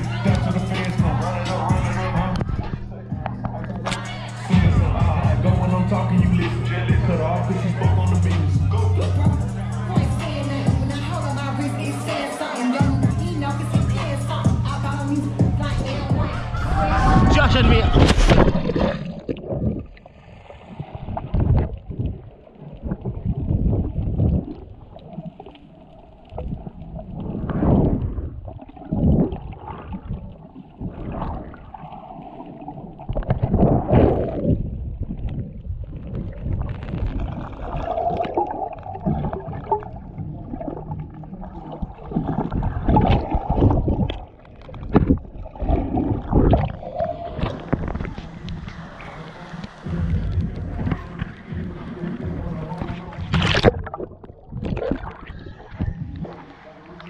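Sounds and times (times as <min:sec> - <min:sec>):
seawater sloshing and gurgling: 0:00.0 - 0:10.2, 0:12.8 - 0:57.0.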